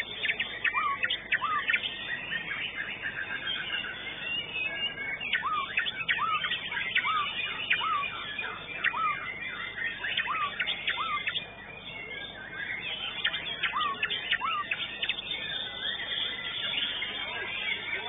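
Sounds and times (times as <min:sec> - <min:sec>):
caged songbirds calling: 0:00.0 - 0:18.0
songbird singing sharp notes: 0:00.0 - 0:18.0.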